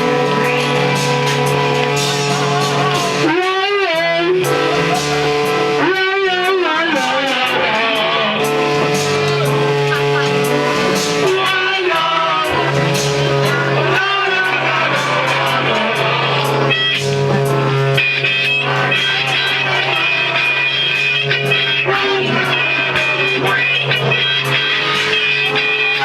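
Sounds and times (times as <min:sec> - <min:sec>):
electric guitar: 0:00.0 - 0:26.0
live rock band playing: 0:00.0 - 0:26.0.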